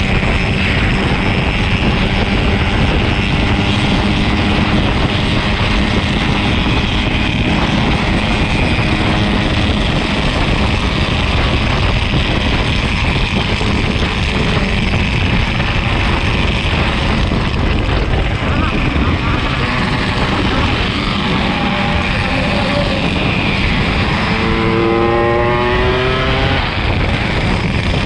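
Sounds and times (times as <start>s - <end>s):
two-stroke motorcycle engine drone: 0.0s - 28.0s
wind rumble on microphone: 0.0s - 28.0s.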